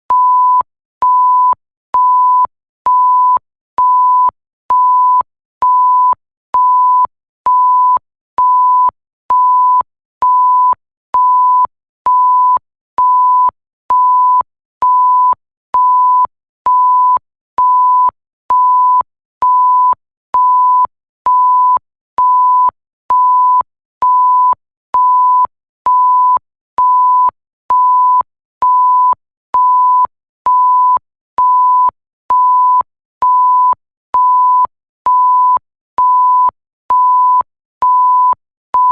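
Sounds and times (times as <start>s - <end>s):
censor bleep tone: 0.1s - 38.9s.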